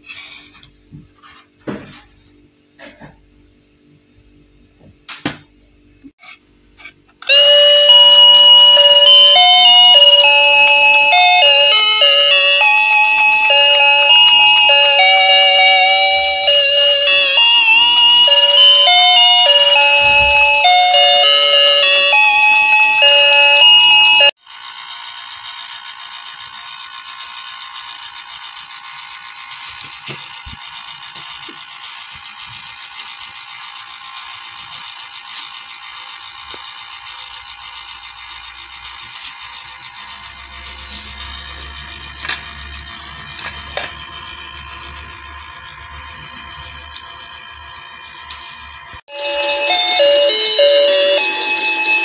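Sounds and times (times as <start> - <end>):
toy motor whirring: 0.0 - 0.7, 6.2 - 52.0.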